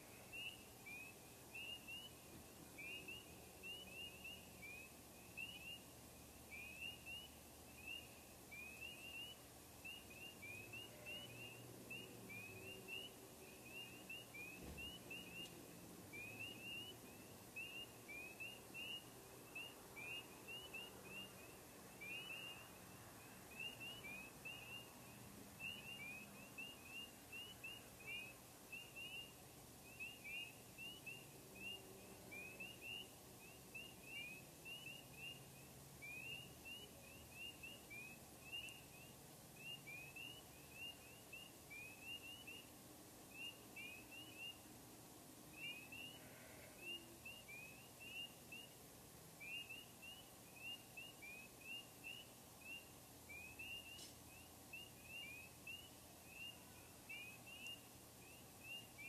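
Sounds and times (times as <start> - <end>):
faint low hum: 0.0 - 59.0
frogs peeping: 0.0 - 59.0.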